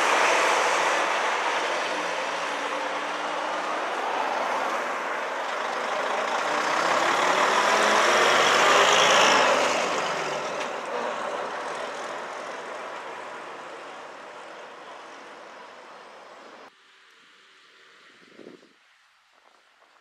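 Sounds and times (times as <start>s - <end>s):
bus engine driving past: 0.0s - 16.7s.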